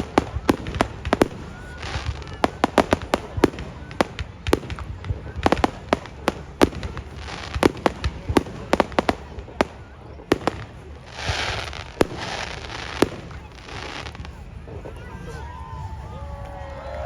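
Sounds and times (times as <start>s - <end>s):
hissing crackle: 0.0s - 15.1s.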